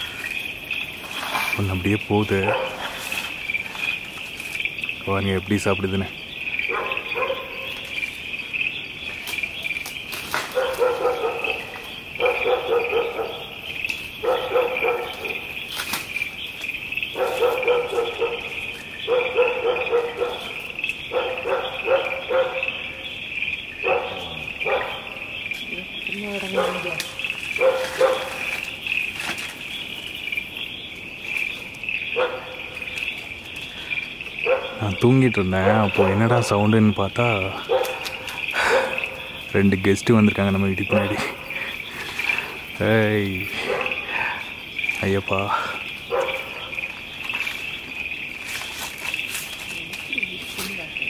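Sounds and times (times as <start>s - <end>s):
low rapid pulsing animal call: 0.0s - 9.8s, 10.5s - 15.7s, 16.3s - 29.0s, 29.7s - 48.4s
crickets chirring: 0.0s - 51.0s.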